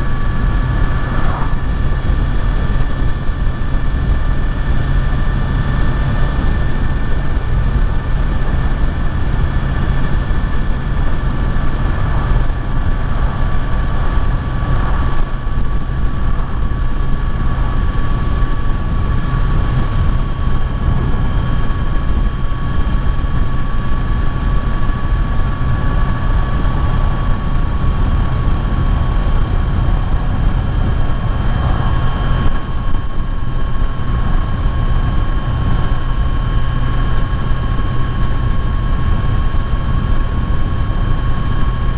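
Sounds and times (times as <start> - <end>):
motorcycle engine cruising: 0.0 - 41.9
wind noise: 0.0 - 41.9.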